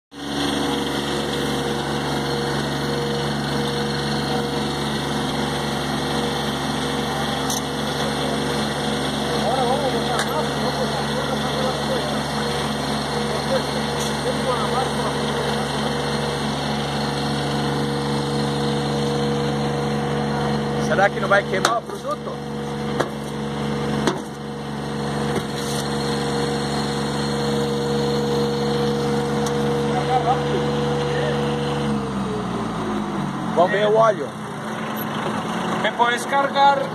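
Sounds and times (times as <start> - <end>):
engine humming steadily: 0.1 - 36.9.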